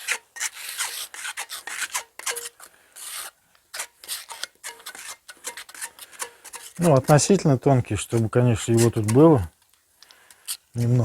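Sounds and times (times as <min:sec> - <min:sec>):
mastic scraping on brick: 0:00.0 - 0:07.4, 0:08.0 - 0:09.5.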